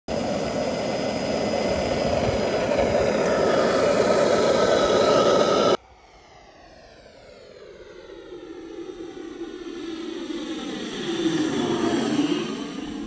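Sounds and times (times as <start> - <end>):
faint turbine-like whine: 0.1 - 13.0
model aircraft propellers running: 0.1 - 13.0
simulated turboprop sound: 0.1 - 13.0.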